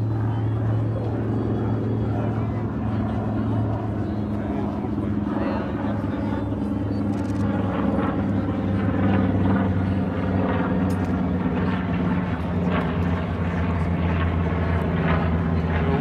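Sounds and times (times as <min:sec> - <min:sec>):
propeller plane engine flypast: 0:00.0 - 0:16.0.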